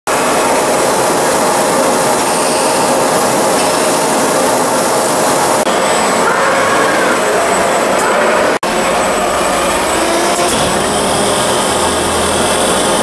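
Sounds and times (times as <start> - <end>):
dense machinery noise: 0.1 - 13.0.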